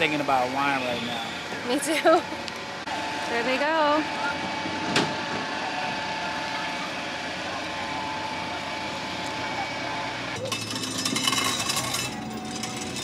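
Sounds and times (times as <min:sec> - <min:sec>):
carnival ride mechanical hum: 0:00.0 - 0:13.0.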